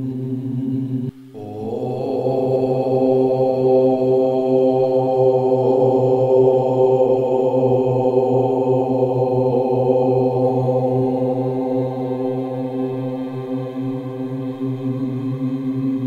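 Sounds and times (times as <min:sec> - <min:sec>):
low droning chant: 0:00.0 - 0:16.0.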